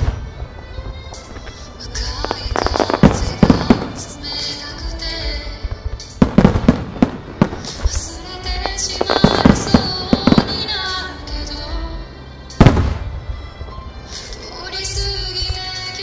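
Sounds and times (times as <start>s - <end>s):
fireworks bursting: 0.0s - 11.6s, 12.6s - 14.4s
music playing: 0.0s - 16.0s.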